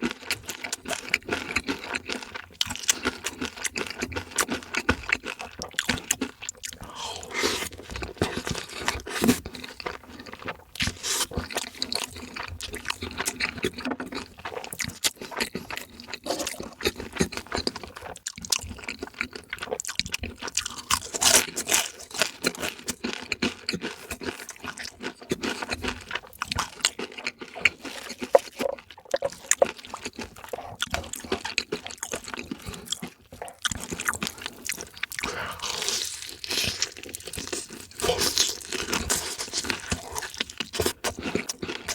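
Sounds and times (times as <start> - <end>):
chewing crispy fried chicken: 0.0 - 41.9.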